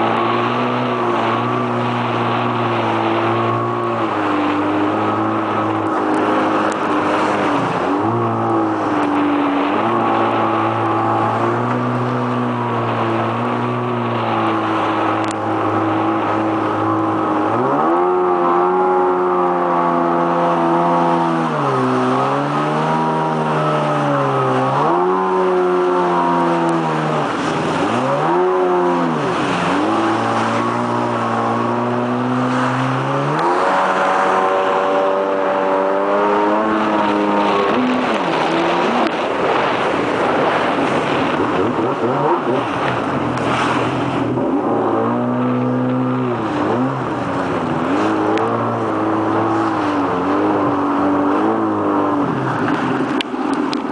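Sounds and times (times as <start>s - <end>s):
jet ski engine revving: 0.0s - 53.9s.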